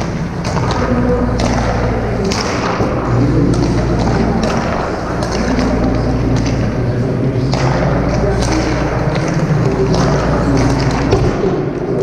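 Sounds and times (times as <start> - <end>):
hockey sticks clacking on pucks: 0.0 - 12.0
low hum: 0.0 - 12.0
pucks hitting boards: 0.0 - 12.0.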